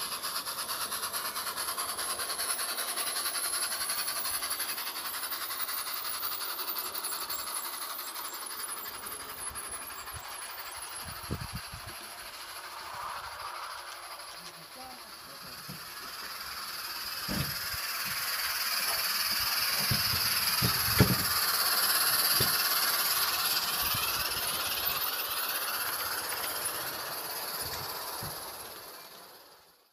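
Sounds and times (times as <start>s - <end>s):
steam locomotive hissing: 0.0s - 29.9s.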